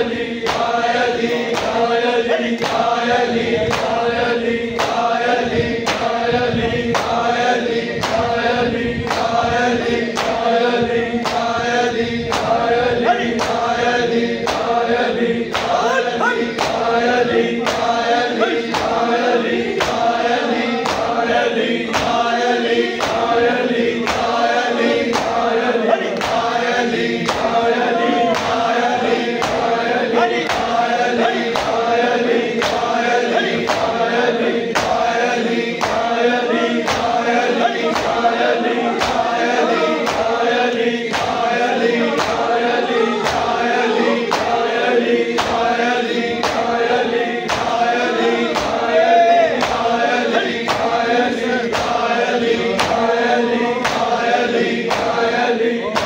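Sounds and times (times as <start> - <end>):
male chorus chanting: 0.0 - 56.0.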